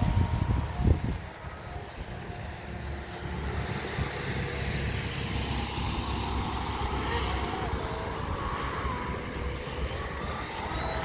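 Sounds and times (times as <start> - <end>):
faint model boat motor: 0.0 - 11.0
wind rumbling on microphone: 0.0 - 11.0.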